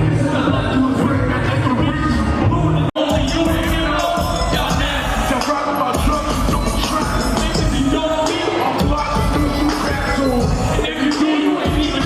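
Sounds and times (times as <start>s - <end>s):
hip-hop music with vocals: 0.0s - 12.0s.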